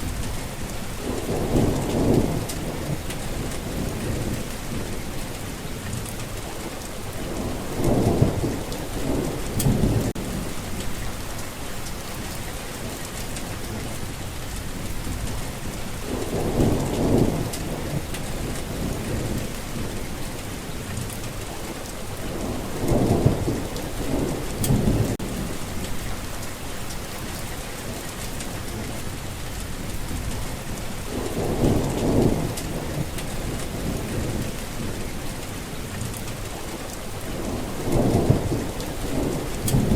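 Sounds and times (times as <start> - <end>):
low thunder rumbling: 0.0 - 21.4, 22.1 - 27.0, 27.7 - 39.9
steady rain falling: 0.0 - 39.9.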